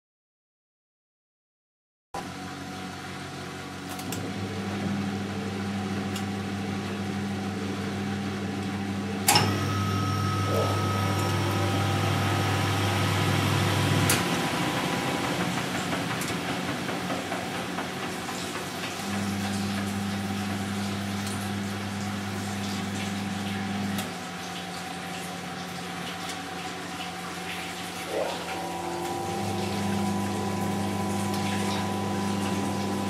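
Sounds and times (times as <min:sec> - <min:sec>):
washing machine drum spinning: 0:03.6 - 0:33.0.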